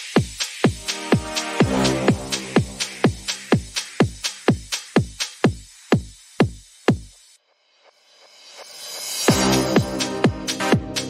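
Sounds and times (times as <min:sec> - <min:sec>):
kick drum: 0:00.0 - 0:07.2, 0:09.3 - 0:11.0
electronic dance music: 0:00.0 - 0:07.4, 0:08.0 - 0:11.0.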